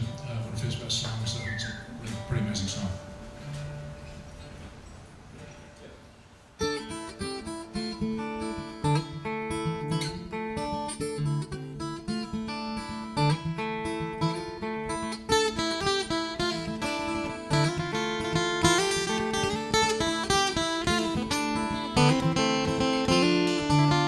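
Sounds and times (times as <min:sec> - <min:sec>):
acoustic guitar plucked and strummed: 0:00.0 - 0:05.8, 0:06.5 - 0:24.0.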